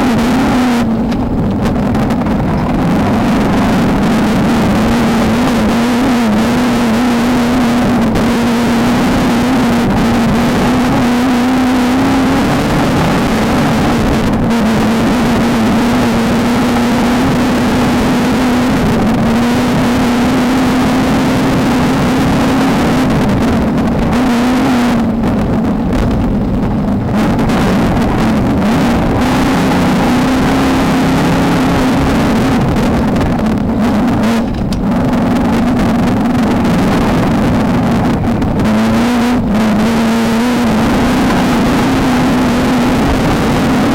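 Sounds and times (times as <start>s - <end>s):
race car engine running hard: 0.0s - 43.9s.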